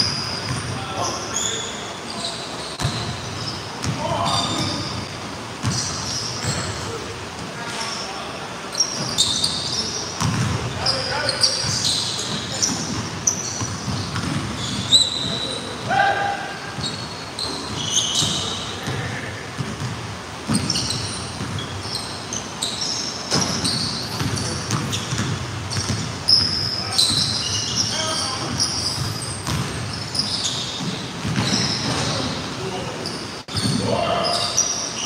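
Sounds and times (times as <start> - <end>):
sneaker squeaks: 0.0 - 7.0, 7.6 - 35.0
players' voices: 0.1 - 22.4, 23.3 - 34.7.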